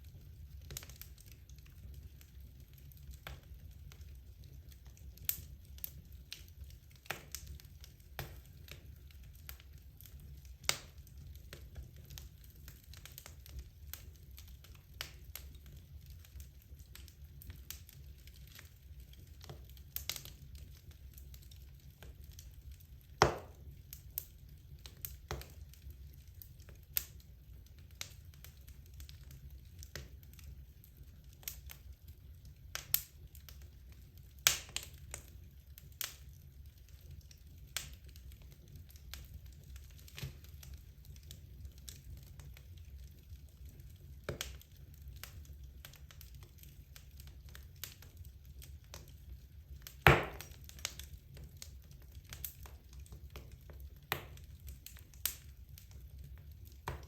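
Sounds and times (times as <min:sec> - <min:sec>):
logs crackling in fireplace: 0:00.0 - 0:57.0.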